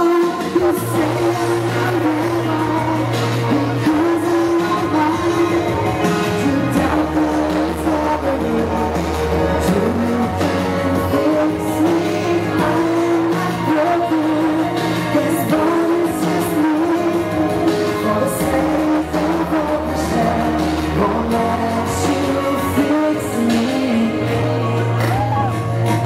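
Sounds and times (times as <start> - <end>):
live pop-rock band playing: 0.0 - 26.0.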